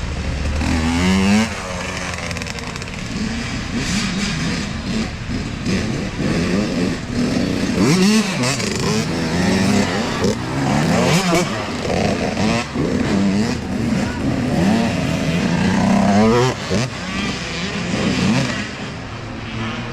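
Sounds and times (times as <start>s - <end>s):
dirt bike engines revving: 0.0s - 19.9s.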